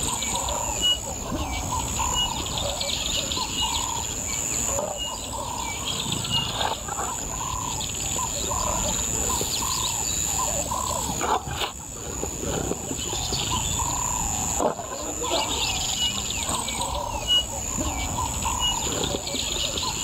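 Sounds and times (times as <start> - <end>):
birds whistling and chirping: 0.0 - 11.2, 13.0 - 20.0
high-pitched insect drone: 0.0 - 20.0.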